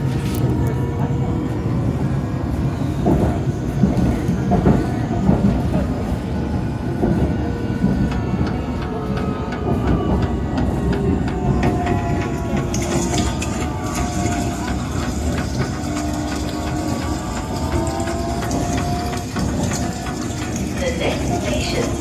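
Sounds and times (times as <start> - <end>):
train rumbling inside carriage: 0.0 - 22.0
train wheel clicks: 3.0 - 22.0.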